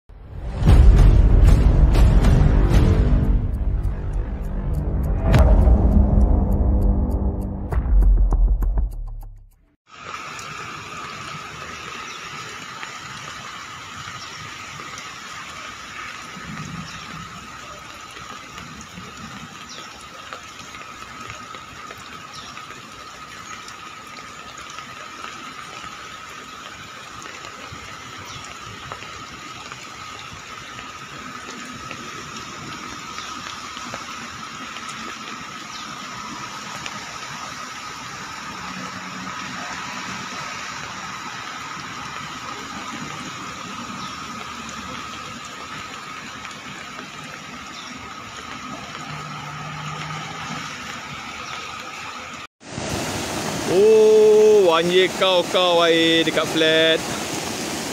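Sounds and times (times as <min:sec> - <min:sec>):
floodwater rushing: 0:09.9 - 0:57.9.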